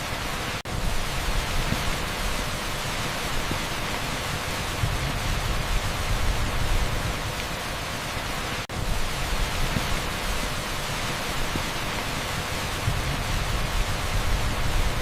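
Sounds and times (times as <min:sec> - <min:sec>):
torrential rain on asphalt: 0:00.0 - 0:15.0.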